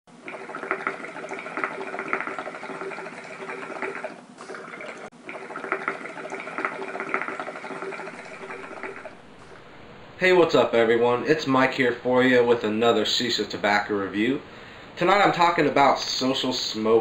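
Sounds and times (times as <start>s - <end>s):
water bubbling in hookah: 0.1s - 17.0s.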